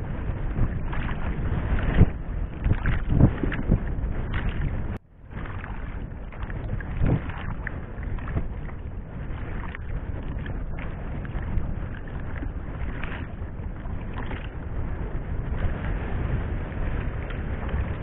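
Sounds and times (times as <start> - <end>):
water noise: 0.0 - 18.0
wind noise: 0.0 - 18.0.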